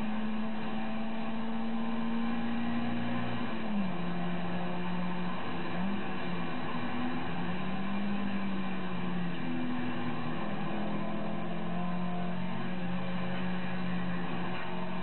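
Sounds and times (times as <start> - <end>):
car engine running from inside: 0.0 - 15.0.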